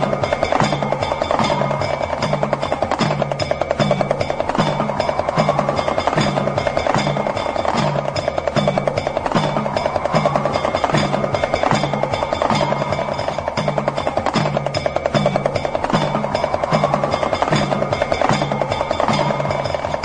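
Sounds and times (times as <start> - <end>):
pellet drum rattling: 0.0 - 20.0
sliding high tone: 0.0 - 20.0.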